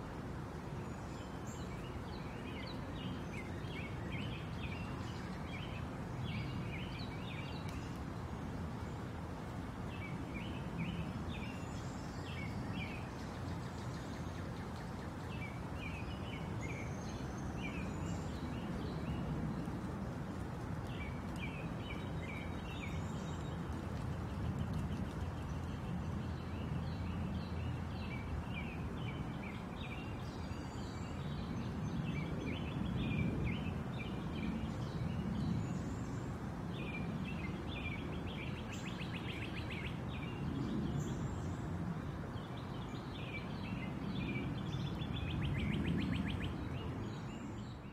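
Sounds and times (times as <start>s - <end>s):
wind: 0.0s - 47.9s
small birds chirping: 0.7s - 41.7s.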